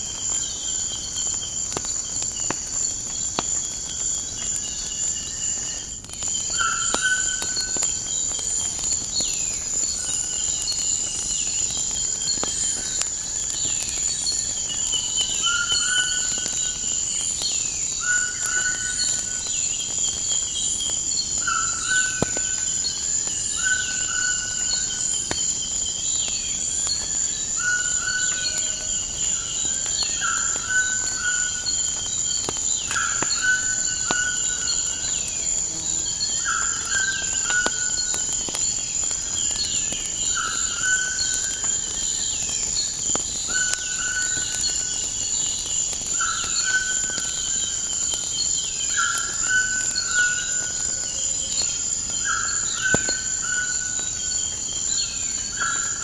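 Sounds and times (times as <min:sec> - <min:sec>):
crickets trilling: 0:00.0 - 0:56.0
faint fire crackles: 0:00.0 - 0:56.0.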